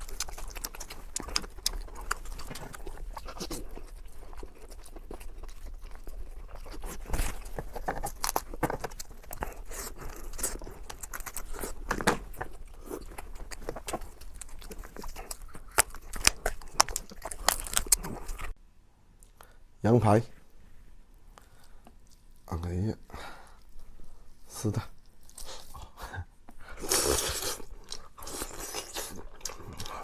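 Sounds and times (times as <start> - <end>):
chewing and crunching food: 0.0 - 18.6, 21.3 - 30.0.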